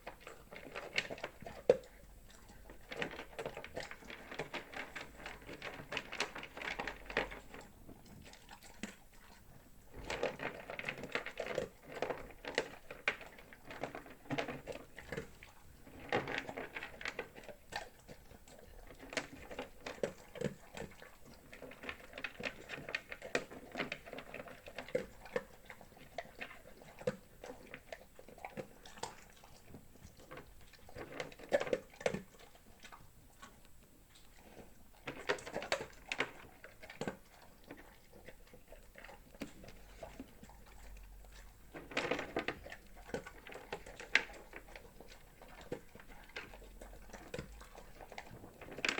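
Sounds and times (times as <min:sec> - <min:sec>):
dog crunching dry kibble: 0:00.0 - 0:48.9.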